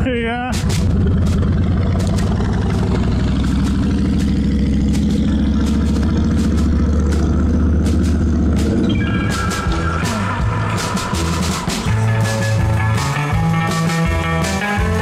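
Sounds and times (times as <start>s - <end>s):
road noise: 0.0s - 15.0s
wind buffeting: 0.5s - 13.0s.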